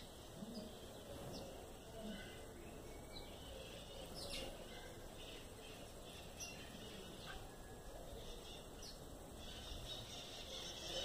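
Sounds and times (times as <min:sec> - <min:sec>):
faint bird chirps: 0:00.0 - 0:11.0
low background hiss: 0:00.0 - 0:11.0.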